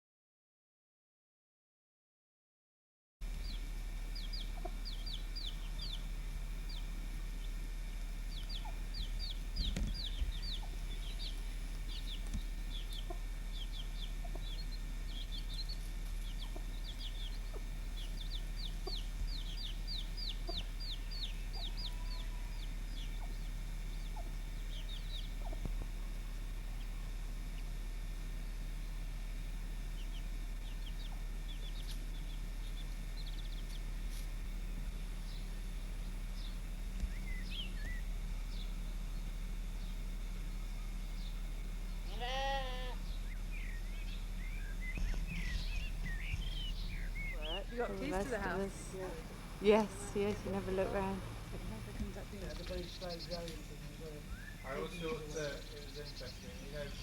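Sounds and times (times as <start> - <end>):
steady low hum: 3.2 - 57.0
chicks cheeping: 3.3 - 57.0.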